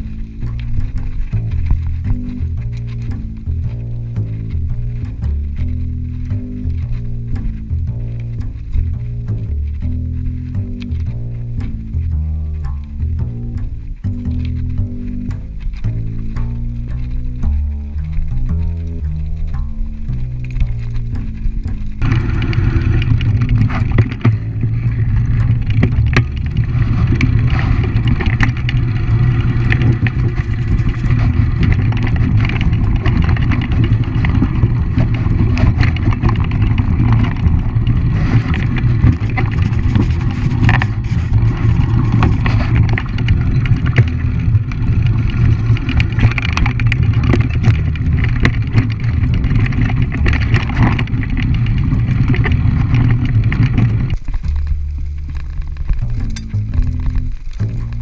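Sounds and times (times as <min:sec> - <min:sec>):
bike rattling over stones: 0:00.0 - 0:58.0
tyre and wind rumble: 0:00.0 - 0:58.0.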